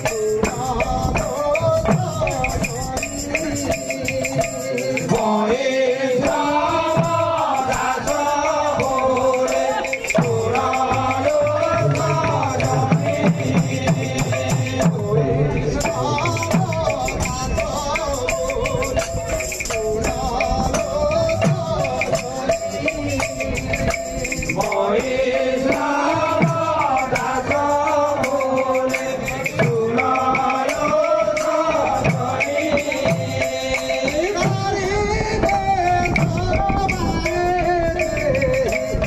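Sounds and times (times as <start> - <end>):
jingling hand cymbals: 0.0 - 39.0
men singing a chant: 0.0 - 39.0.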